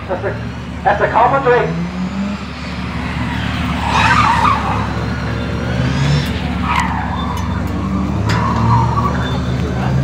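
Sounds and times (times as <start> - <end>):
car tyres squealing: 1.0 - 10.0.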